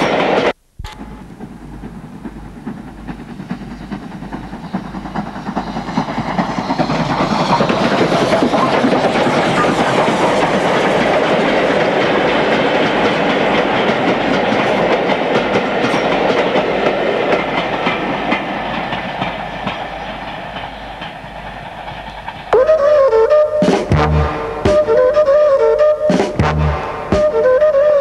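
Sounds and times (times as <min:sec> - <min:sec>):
steam train rushing clatter: 0:00.0 - 0:28.0.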